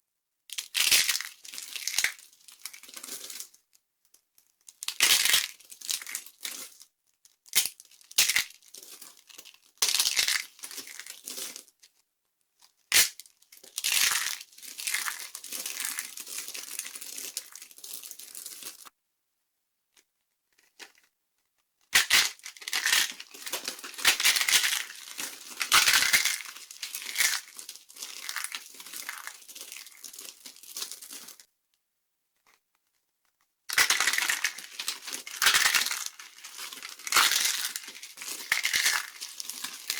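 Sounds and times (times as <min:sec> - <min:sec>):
dry soap crackling and crunching: 0:00.5 - 0:18.9, 0:19.9 - 0:39.9.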